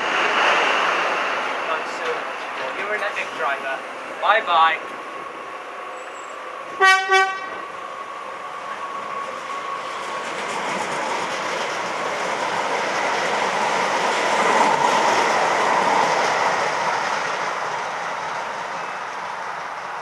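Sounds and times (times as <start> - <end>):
electric trains passing on tracks: 0.0 - 20.0.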